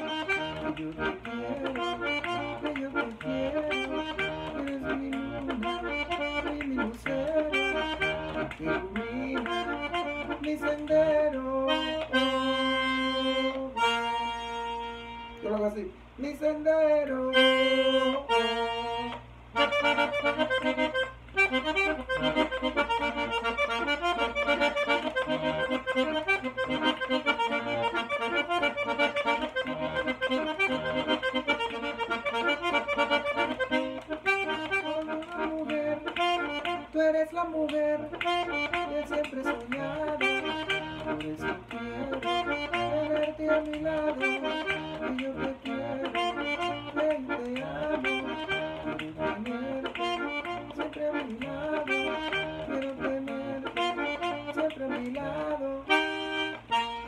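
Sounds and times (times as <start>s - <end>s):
button accordion melody: 0.0s - 57.0s.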